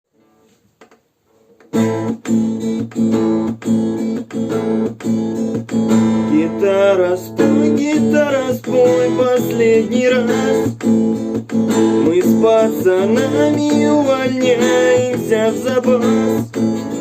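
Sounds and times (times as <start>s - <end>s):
acoustic guitar strumming chords: 1.3s - 17.0s.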